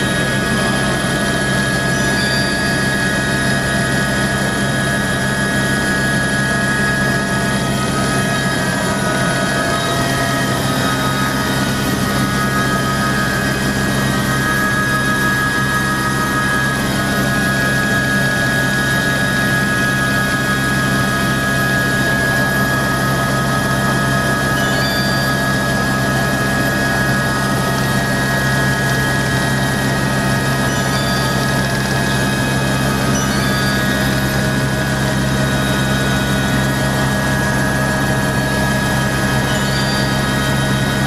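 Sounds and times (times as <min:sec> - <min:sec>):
helicopter engine and rotor drone: 0:00.0 - 0:41.0
high turbine whine: 0:00.0 - 0:41.0.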